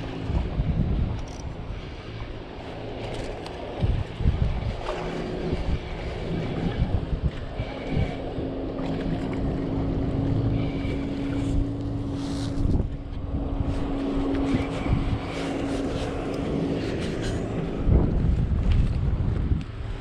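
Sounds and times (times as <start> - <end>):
steady low hum: 0.0 - 20.0
wind buffeting microphone: 0.0 - 20.0.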